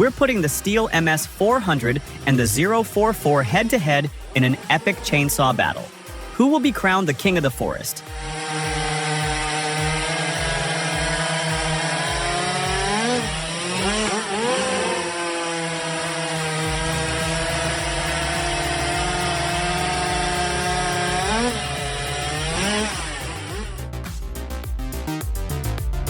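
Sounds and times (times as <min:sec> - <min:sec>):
chainsaw running at high speed: 0:00.0 - 0:26.0.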